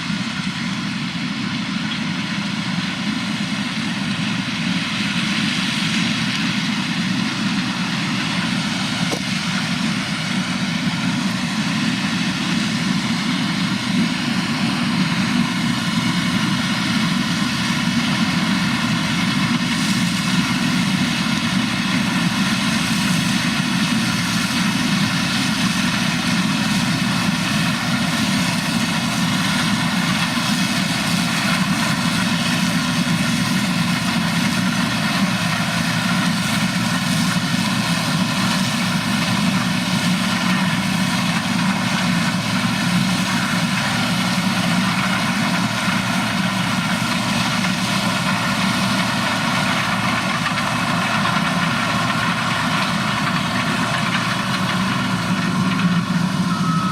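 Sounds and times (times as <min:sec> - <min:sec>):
heavy farm machine engine running: 0:00.0 - 0:56.9.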